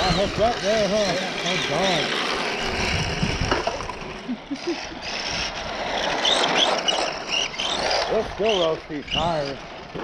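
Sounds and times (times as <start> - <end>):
electric motor whining: 0.0 - 10.0
toy car tyres on rough asphalt: 0.0 - 10.0.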